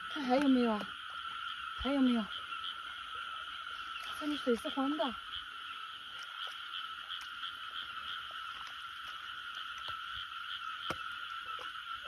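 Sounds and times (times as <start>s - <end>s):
frogs trilling chorus: 0.0s - 12.0s.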